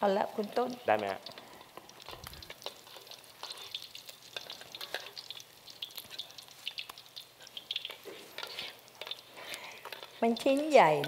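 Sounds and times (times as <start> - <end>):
omelet crackling in hot oil: 0.0 - 11.0.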